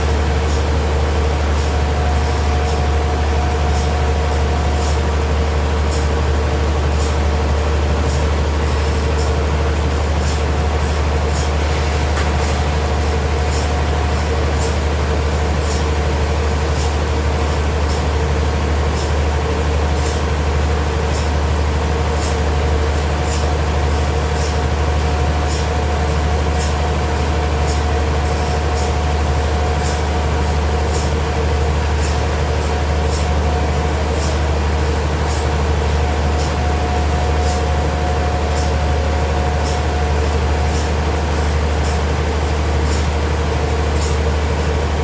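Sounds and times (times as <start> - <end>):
sawmill machinery hum: 0.0 - 45.0.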